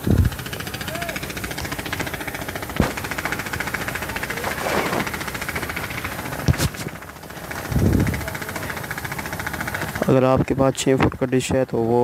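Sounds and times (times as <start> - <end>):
engine running with rapid pulse: 0.0 - 10.1.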